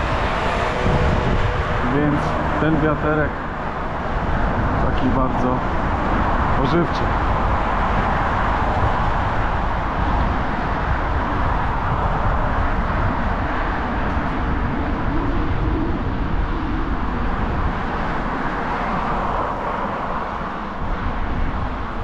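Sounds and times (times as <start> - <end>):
street traffic noise: 0.0 - 22.0
wind rumbling over microphone: 0.0 - 22.0.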